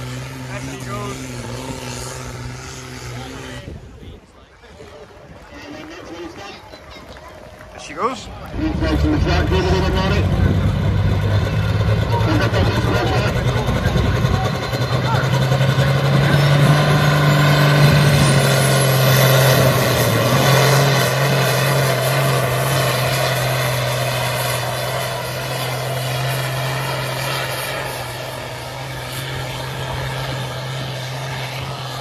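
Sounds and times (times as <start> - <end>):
tractor engine droning: 5.6 - 32.0.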